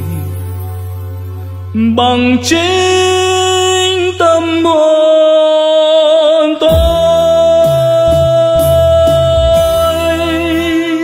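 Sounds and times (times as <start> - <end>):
bass and drums: 0.0 - 4.8, 6.6 - 11.0.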